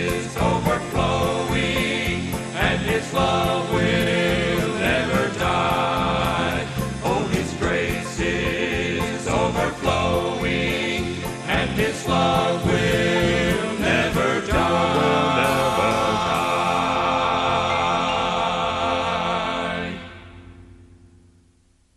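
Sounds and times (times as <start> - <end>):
voices singing gospel: 0.0 - 20.5.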